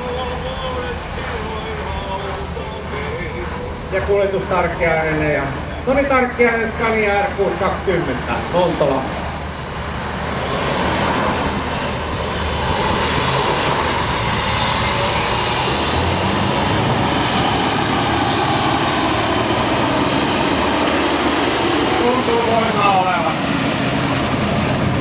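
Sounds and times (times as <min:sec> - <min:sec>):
diesel truck engine under load: 0:00.0 - 0:25.0.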